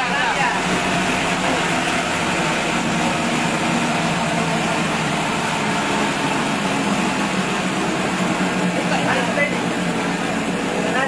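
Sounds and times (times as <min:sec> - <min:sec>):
shredder machine running: 0:00.0 - 0:11.0.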